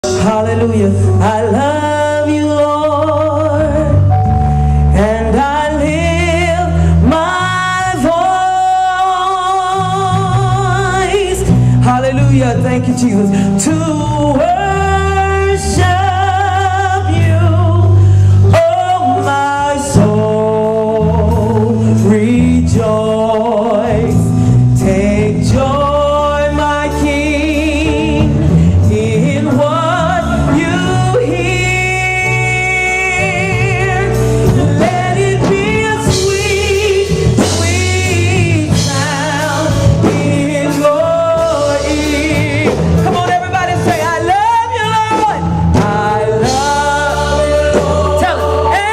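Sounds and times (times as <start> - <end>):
gospel group singing: 0.0 - 48.9
instrumental accompaniment: 0.0 - 48.9.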